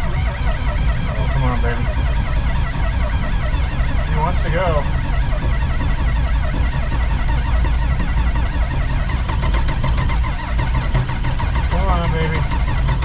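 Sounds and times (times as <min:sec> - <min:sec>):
engine cranking on starter: 0:00.0 - 0:13.0.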